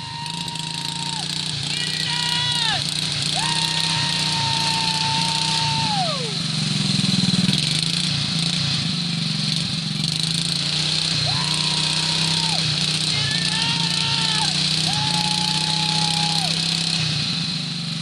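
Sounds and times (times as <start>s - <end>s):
small engine running hard: 0.0s - 18.0s
tires spinning in mud: 0.0s - 18.0s.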